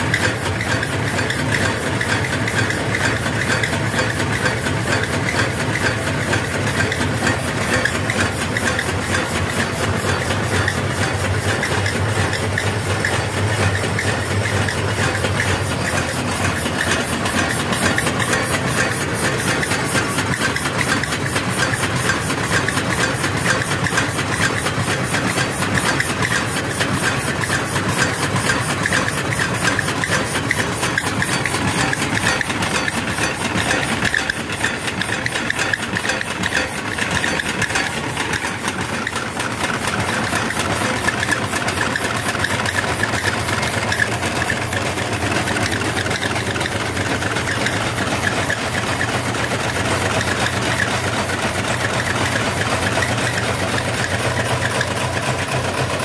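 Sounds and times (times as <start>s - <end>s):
stirling engine running: 0.0s - 56.0s.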